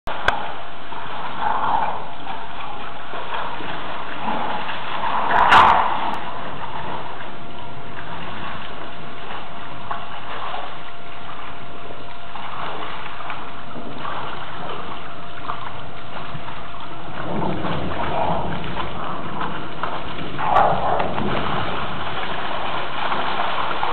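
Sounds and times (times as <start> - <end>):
steady rain hiss: 0.1 - 23.9.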